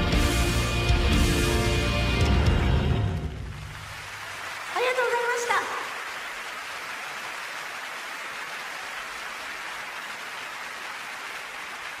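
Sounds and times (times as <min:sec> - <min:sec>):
crowd applauding: 0:02.2 - 0:12.0.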